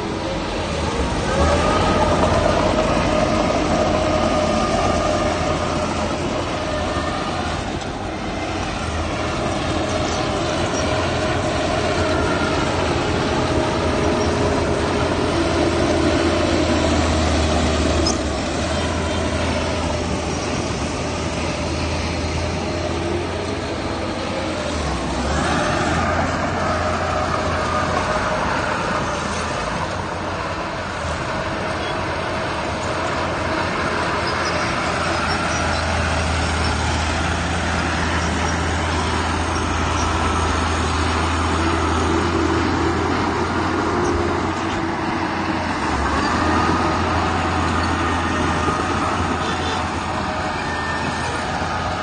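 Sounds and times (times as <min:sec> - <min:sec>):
heavy diesel machinery rumble: 0:00.0 - 0:52.0.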